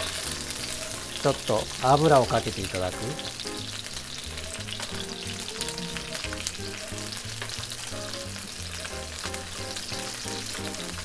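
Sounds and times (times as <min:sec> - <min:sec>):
chicken sizzling in oil: 0:00.0 - 0:11.0
quiet background music: 0:00.0 - 0:11.0.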